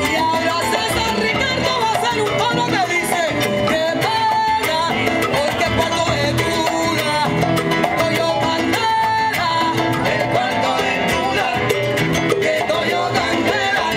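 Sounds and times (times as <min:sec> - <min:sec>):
salsa band playing: 0:00.0 - 0:13.9.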